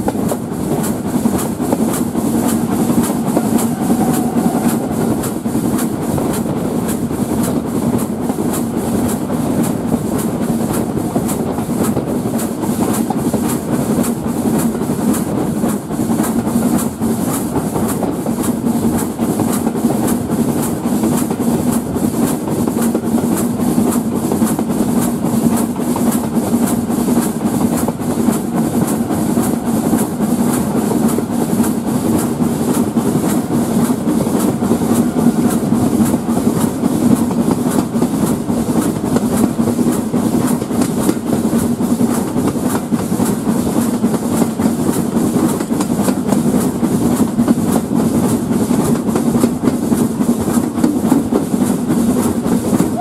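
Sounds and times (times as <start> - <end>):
train carriages rumbling on track: 0.0 - 53.0.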